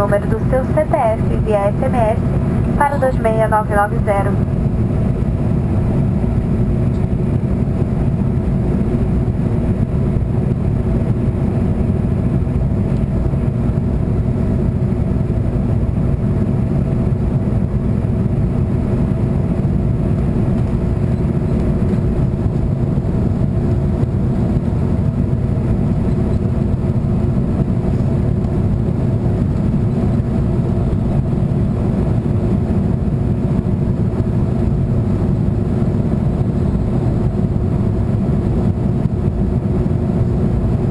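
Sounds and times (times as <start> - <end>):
airliner cabin drone: 0.0 - 40.9
faint steady hum: 0.0 - 40.9.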